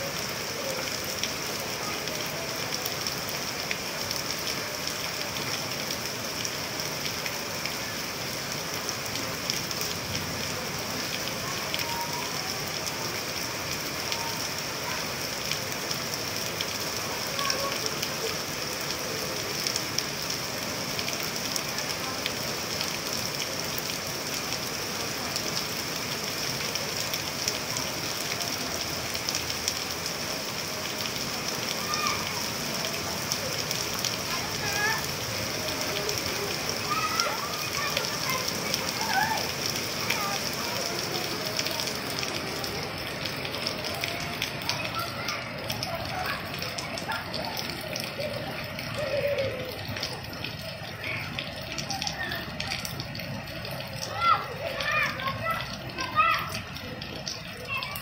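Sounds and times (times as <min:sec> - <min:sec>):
rain on wet paving: 0:00.0 - 0:58.0.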